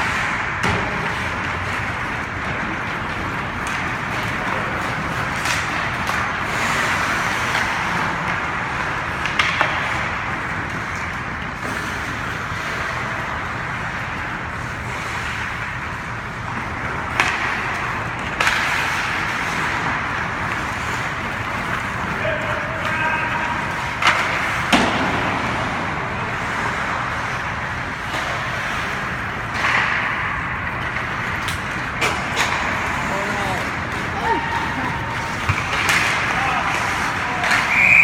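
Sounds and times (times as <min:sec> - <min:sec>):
hockey sticks and puck knocking: 0:00.0 - 0:38.0
rink noise rushing: 0:00.0 - 0:38.0.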